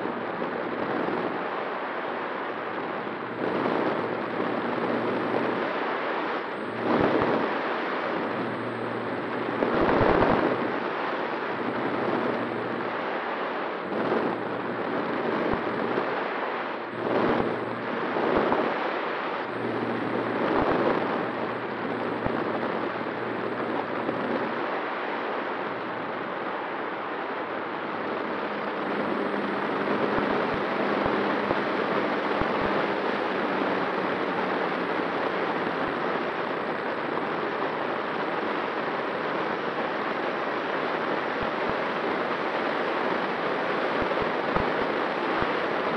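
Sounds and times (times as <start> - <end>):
faint motor and propeller hum: 0.0 - 45.9.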